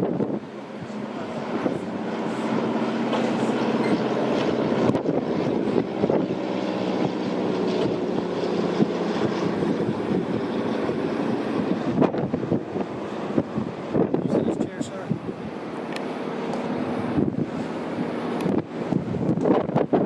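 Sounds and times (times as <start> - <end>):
large engine droning: 0.0 - 20.0.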